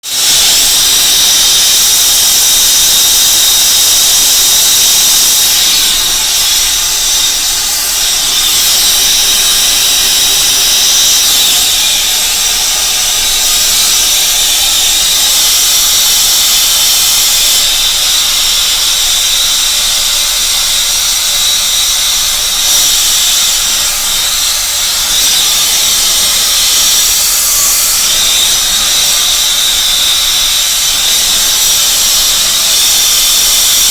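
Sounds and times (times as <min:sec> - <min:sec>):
gas torch hissing: 0:00.0 - 0:33.9.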